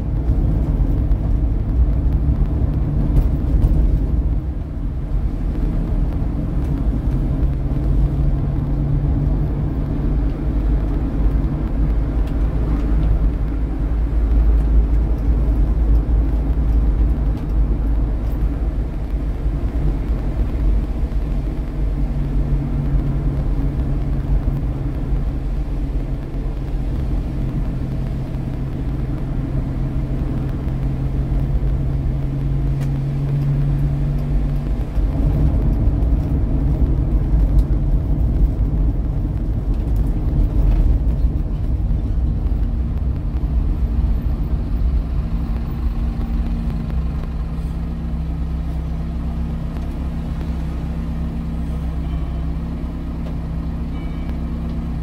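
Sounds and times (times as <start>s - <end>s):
car engine drone: 0.0s - 55.0s
road rumble: 0.0s - 55.0s.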